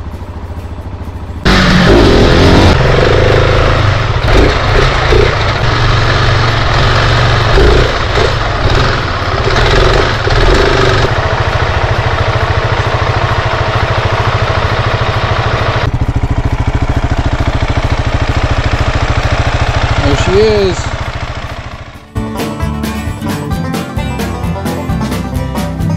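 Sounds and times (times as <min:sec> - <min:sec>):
motorcycle engine revving and idling: 0:00.0 - 0:22.1.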